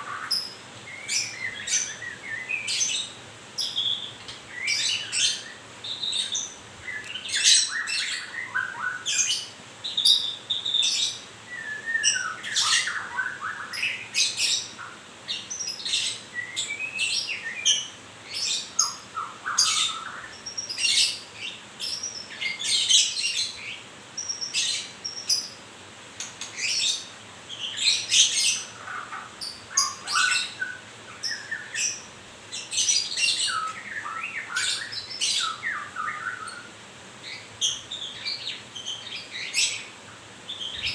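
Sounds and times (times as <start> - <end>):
bird chirping and calling: 0.0 - 25.6, 26.2 - 40.9.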